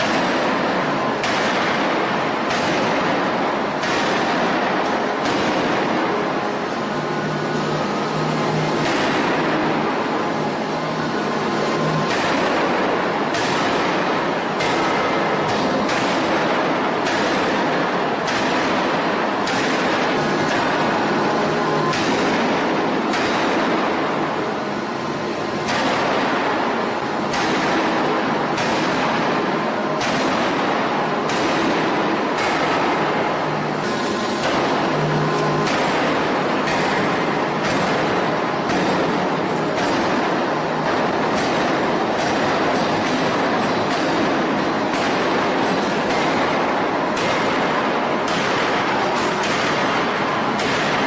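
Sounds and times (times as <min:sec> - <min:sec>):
forging machinery running: 0:00.0 - 0:51.0.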